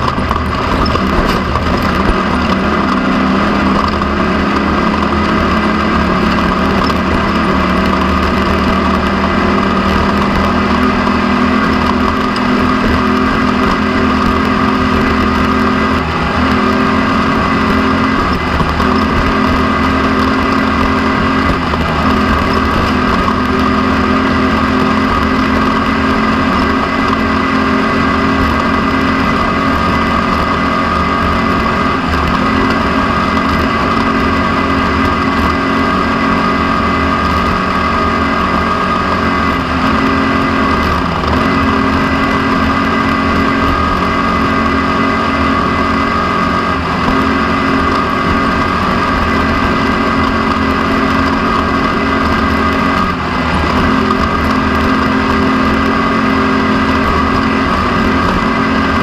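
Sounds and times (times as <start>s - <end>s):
off-road vehicle engine running hard: 0.0s - 59.0s.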